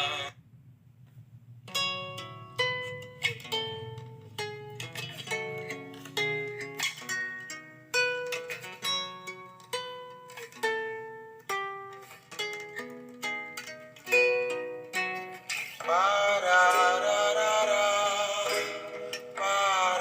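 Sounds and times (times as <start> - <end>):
plucked guitar notes: 1.6 - 20.0.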